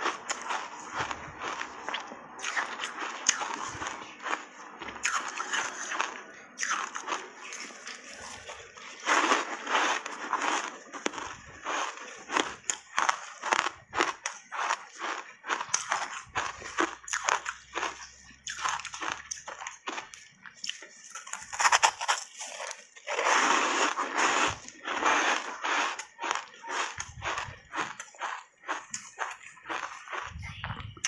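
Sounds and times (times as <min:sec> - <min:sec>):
crunching and chewing ice: 0:00.0 - 0:31.0.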